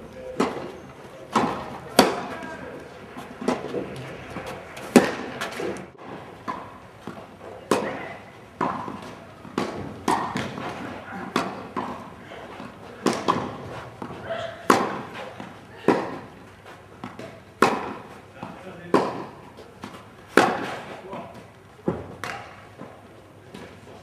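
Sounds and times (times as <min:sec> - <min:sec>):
tennis rackets hitting ball: 0:00.2 - 0:16.4, 0:17.0 - 0:21.0, 0:21.8 - 0:23.0
tennis ball bouncing: 0:01.3 - 0:16.3, 0:17.0 - 0:20.8, 0:21.8 - 0:23.0.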